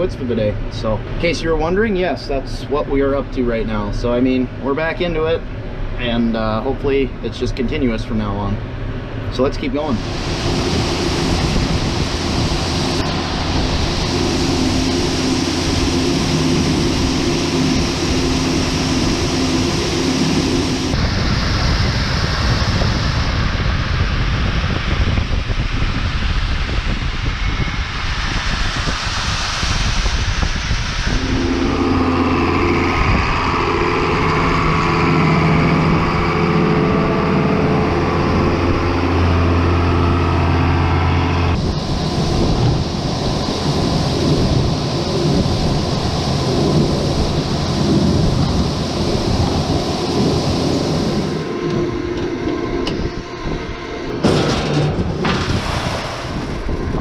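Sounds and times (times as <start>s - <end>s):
broad rushing noise: 0.0s - 57.0s
machinery engines running: 0.0s - 57.0s.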